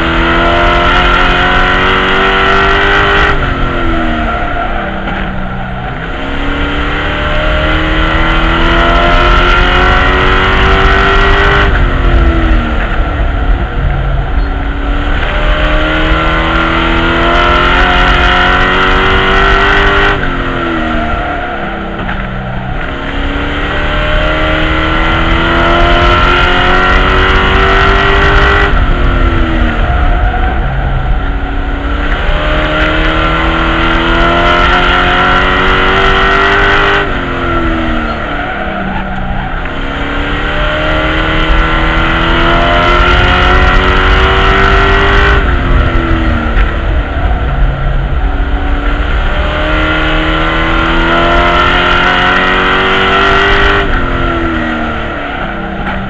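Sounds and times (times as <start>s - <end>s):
truck engine racing: 0.0s - 56.0s.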